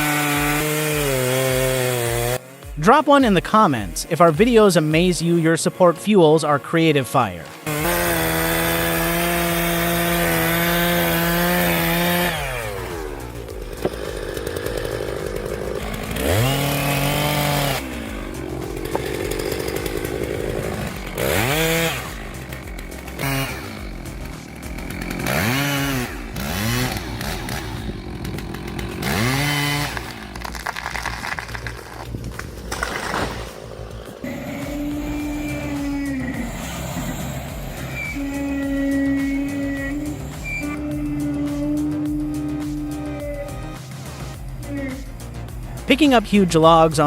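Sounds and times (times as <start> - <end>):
chainsaw engine revving: 0.0 - 47.0.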